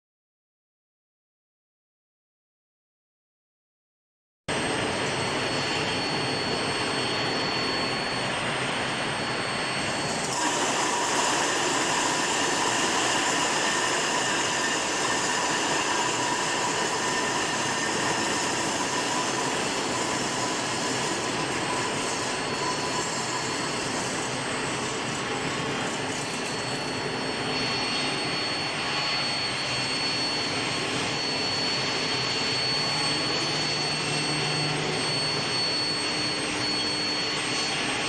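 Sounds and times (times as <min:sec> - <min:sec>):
thin steady high tones: 0:04.7 - 0:38.0.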